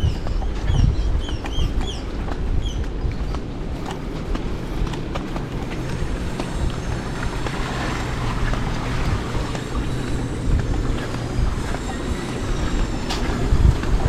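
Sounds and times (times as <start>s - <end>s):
steady low drone: 0.0s - 14.0s
wind buffeting microphone: 0.0s - 14.0s.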